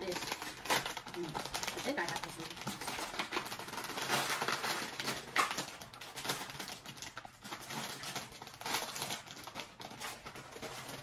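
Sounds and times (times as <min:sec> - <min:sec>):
foil packet tearing and crinkling: 0:00.0 - 0:11.0.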